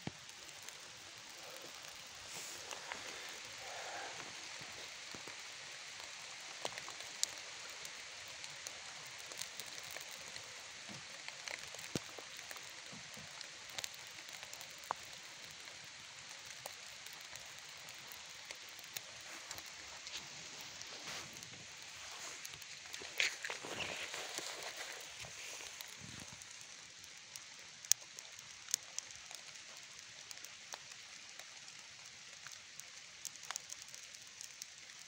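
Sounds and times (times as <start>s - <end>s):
light rain patter: 0.0s - 35.0s
small fire popping and crackling: 0.0s - 35.0s.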